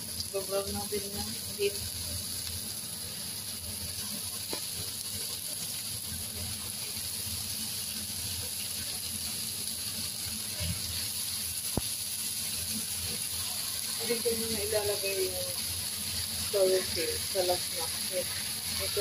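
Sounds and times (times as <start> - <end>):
meat and onions sizzling in pan: 0.0 - 19.0.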